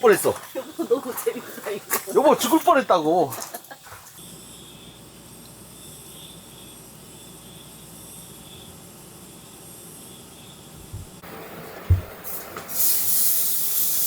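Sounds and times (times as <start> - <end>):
insects chirping in trills: 0.0 - 12.0
steady hiss: 0.0 - 14.0.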